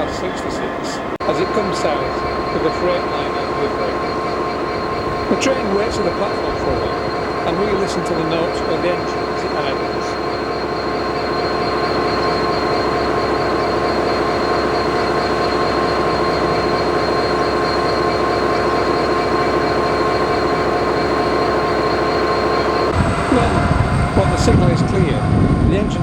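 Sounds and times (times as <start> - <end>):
diesel locomotive engine idling: 0.0 - 26.0
steady high tones: 0.0 - 26.0.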